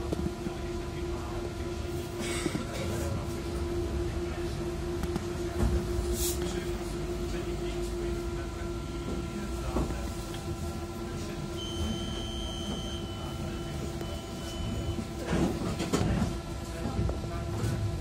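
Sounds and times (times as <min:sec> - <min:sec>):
tram interior rumble: 0:00.0 - 0:18.0.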